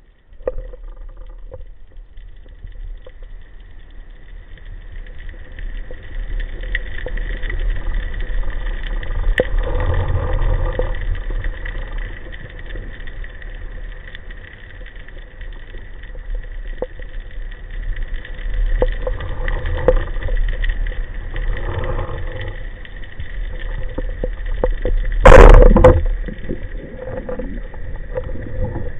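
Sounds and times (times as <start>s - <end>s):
faint clicks: 0.0s - 28.9s
underwater rumble: 0.0s - 28.9s.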